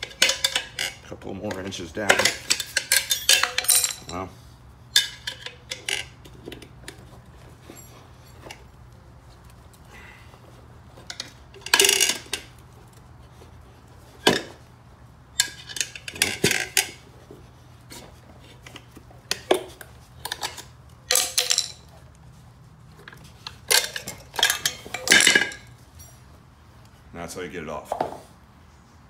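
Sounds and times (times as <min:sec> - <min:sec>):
tire spoons scraping metal rim: 0:00.0 - 0:27.0.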